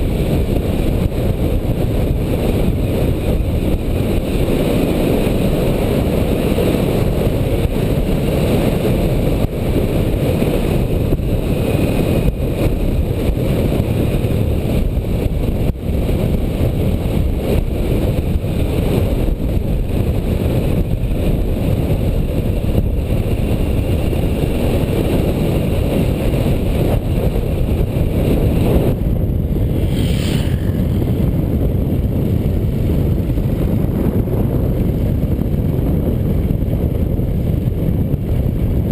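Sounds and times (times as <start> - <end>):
motorcycle engine drone: 0.0 - 38.9
wind buffeting microphone: 0.0 - 38.9.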